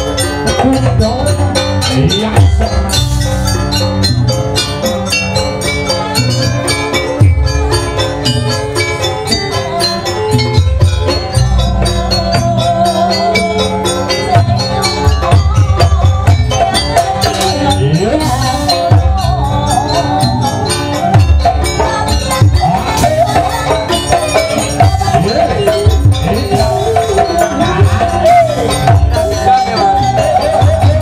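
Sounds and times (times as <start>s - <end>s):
drums and clanging percussion: 0.0s - 31.0s.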